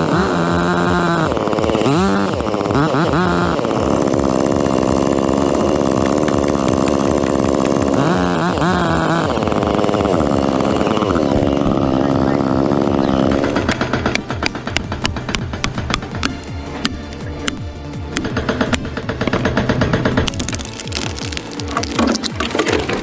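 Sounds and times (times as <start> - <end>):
chainsaw running under load: 0.0 - 23.0.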